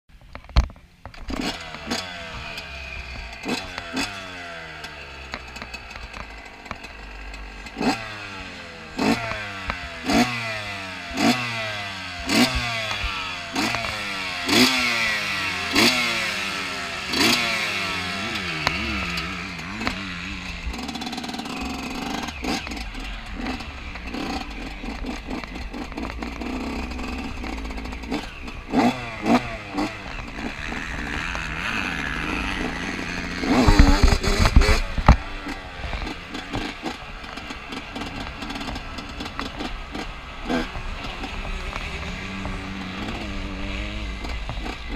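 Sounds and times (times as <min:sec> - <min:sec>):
motocross engine revving: 0:01.0 - 0:44.9.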